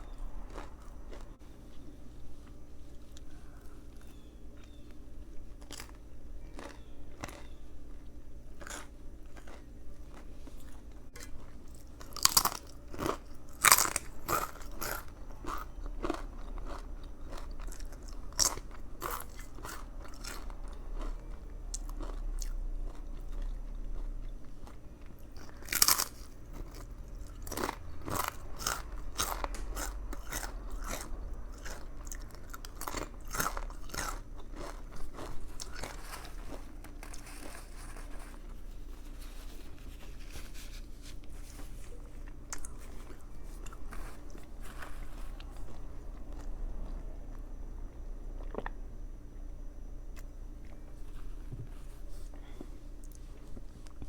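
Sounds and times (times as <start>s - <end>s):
crunchy chewing: 0.0s - 48.8s.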